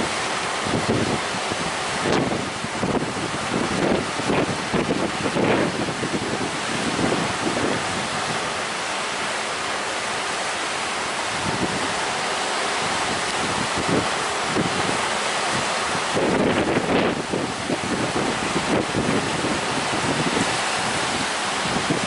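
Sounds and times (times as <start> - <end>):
strong wind on microphone: 0.0 - 8.7, 11.2 - 22.0
sea waves: 0.0 - 22.0.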